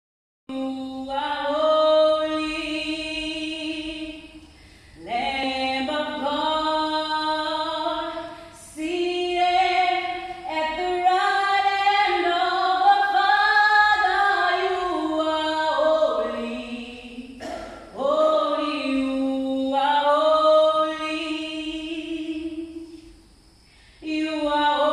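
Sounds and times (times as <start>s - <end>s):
woman singing unaccompanied: 0.5s - 23.2s, 24.0s - 24.9s.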